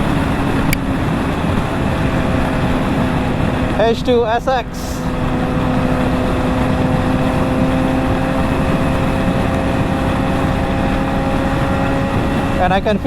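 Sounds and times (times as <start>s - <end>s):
motorcycle engine cruising: 0.0s - 13.0s
wind rush on microphone: 0.0s - 13.0s.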